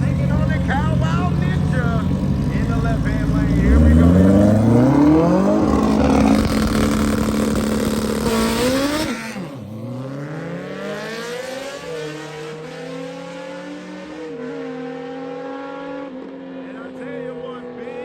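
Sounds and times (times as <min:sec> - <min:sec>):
motorcycle engine accelerating: 0:00.0 - 0:16.7.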